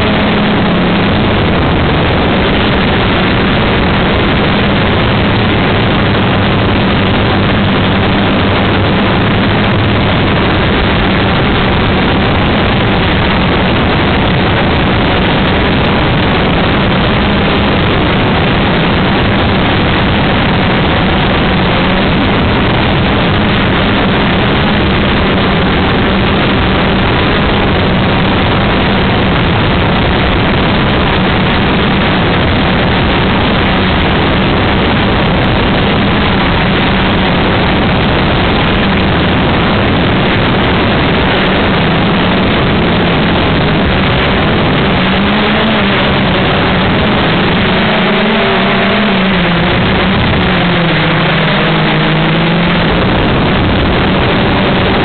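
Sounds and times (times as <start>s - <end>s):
low motor hum: 0.0s - 55.0s
quadcopter propellers rushing: 0.0s - 55.0s.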